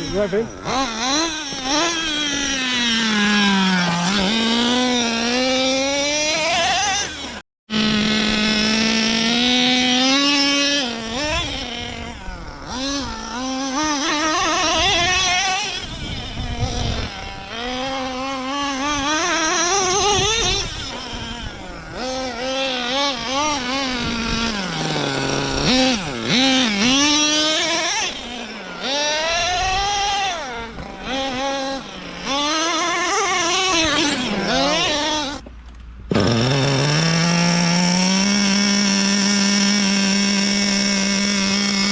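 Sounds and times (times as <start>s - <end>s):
toy car motor revving: 0.0s - 35.4s, 36.1s - 41.9s.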